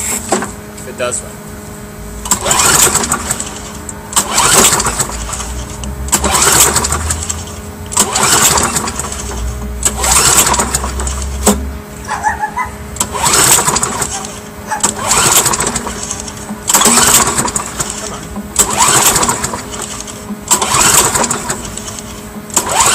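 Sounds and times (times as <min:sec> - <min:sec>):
lawn mower engine cranking: 0:02.2 - 0:11.8, 0:12.9 - 0:22.9.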